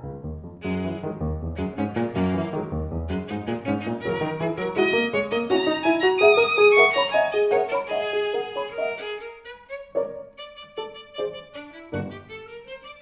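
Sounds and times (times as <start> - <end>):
jazz accompaniment: 0.0 - 12.4
violin fast melodic run: 0.6 - 13.0.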